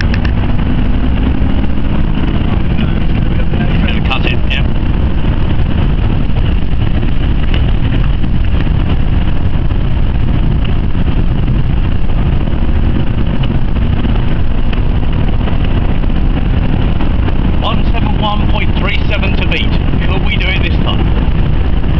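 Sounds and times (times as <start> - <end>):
car engine drone: 0.0 - 21.9
tyre and wind rumble: 0.0 - 21.9.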